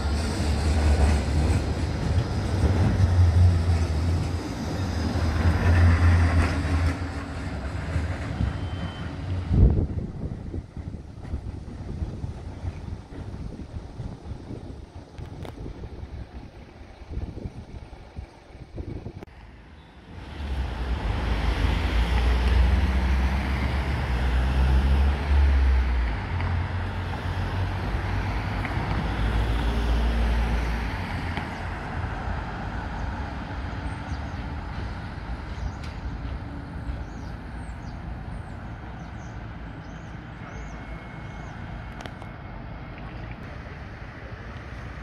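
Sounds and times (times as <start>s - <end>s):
heavy vehicle engine passing: 0.0s - 12.4s, 16.4s - 45.0s
traffic hum: 0.0s - 45.0s.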